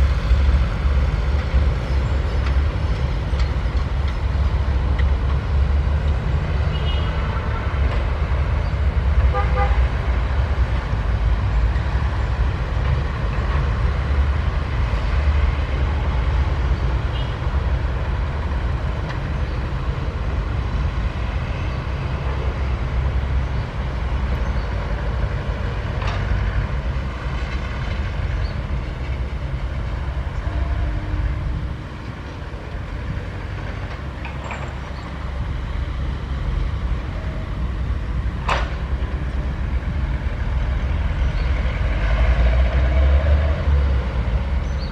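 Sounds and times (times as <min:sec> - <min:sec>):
excavator diesel engine rumbling: 0:00.0 - 0:44.9.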